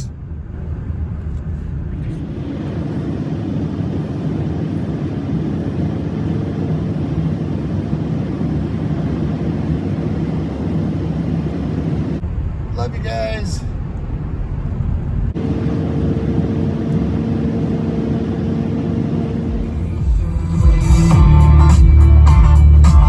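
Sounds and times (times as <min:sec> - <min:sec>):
car engine hum: 0:00.0 - 0:23.0
road noise: 0:00.0 - 0:23.0.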